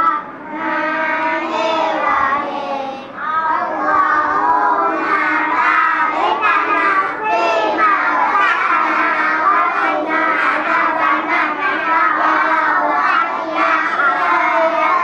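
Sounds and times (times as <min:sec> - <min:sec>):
children chanting in unison: 0:00.0 - 0:15.0.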